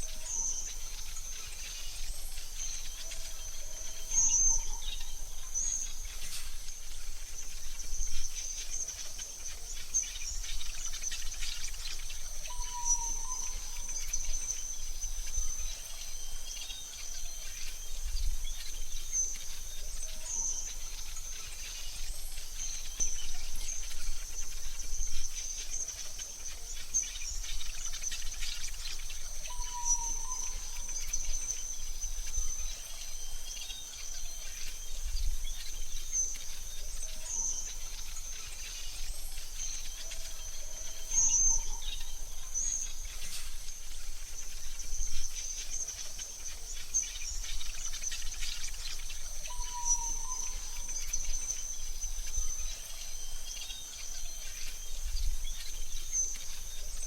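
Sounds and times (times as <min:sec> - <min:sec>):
bird chirps: 0:00.0 - 0:57.0
high-pitched insect trill: 0:00.0 - 0:57.0.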